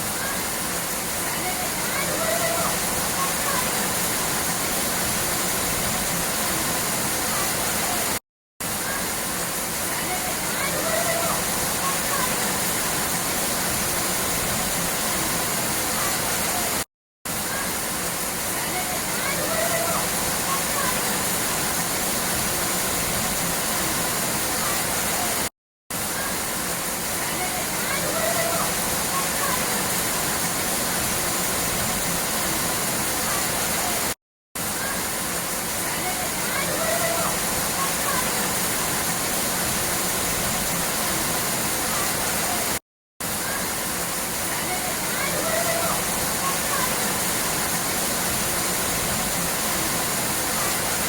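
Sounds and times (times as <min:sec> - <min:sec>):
flowing water rushing: 0:00.0 - 0:51.0.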